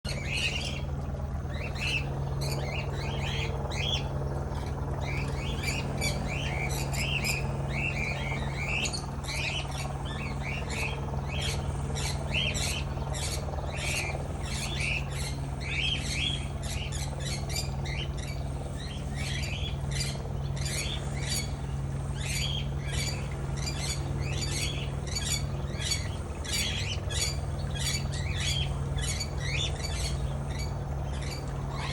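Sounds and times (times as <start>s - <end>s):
steady low hum: 0.1s - 31.9s.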